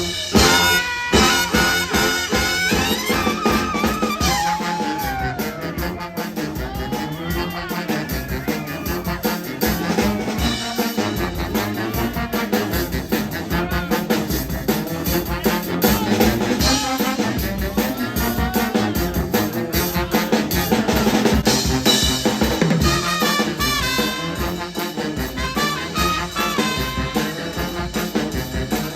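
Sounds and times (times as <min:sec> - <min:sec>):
brass horns: 0:00.0 - 0:28.9
drum kit beat: 0:00.0 - 0:28.9.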